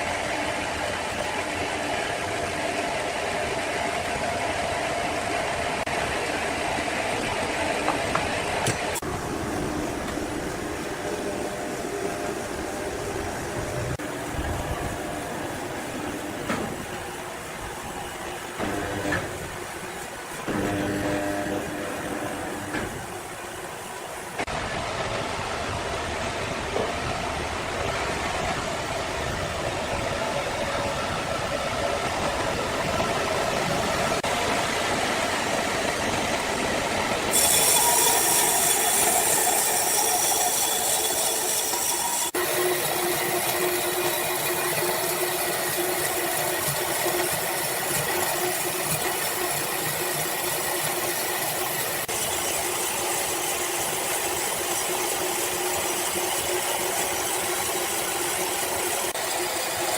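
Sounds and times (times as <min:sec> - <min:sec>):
sawmill saw and machinery: 0:00.0 - 0:59.9.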